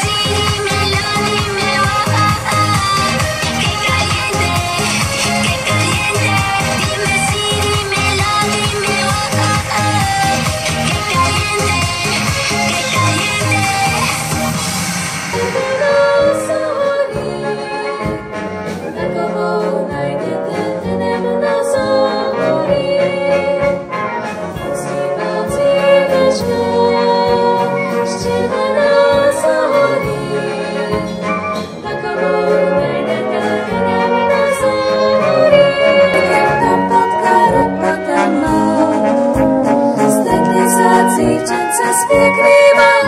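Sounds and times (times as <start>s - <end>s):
women singing: 0.0s - 14.5s, 15.3s - 43.0s
brass band playing: 0.0s - 43.0s.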